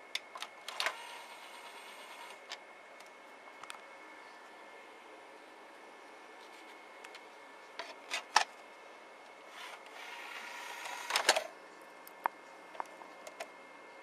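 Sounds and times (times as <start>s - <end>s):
mechanism whirring: 0.0s - 4.8s, 6.8s - 14.0s
faint steady whine: 0.0s - 14.0s.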